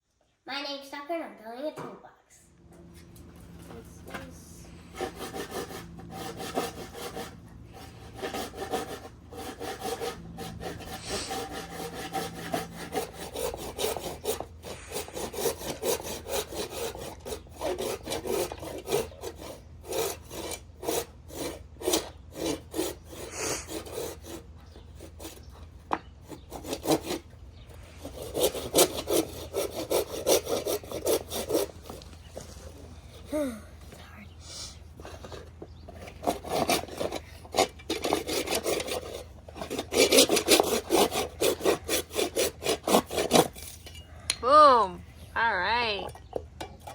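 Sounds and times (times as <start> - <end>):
hand saw cutting wood: 2.8 - 33.4, 35.0 - 44.6.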